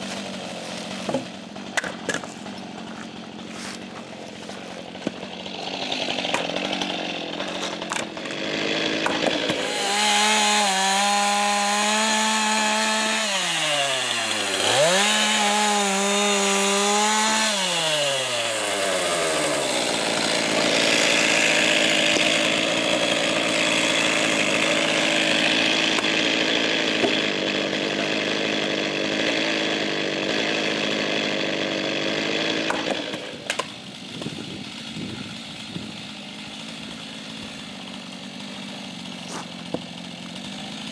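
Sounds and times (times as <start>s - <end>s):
chainsaw cutting a log: 0.0s - 40.9s.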